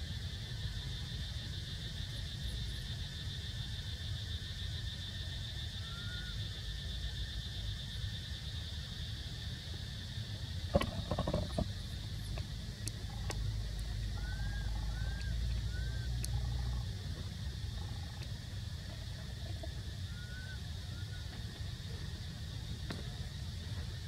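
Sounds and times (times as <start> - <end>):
pulsing insect drone: 0.0 - 24.0.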